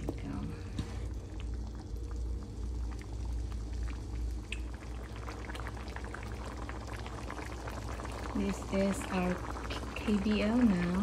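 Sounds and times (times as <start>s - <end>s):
steady low hum: 0.0s - 11.0s
stew bubbling and crackling: 0.0s - 11.0s.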